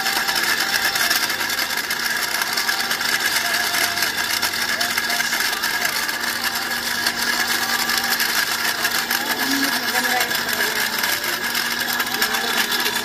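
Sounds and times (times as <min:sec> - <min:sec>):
blender motor whirring: 0:00.0 - 0:13.0.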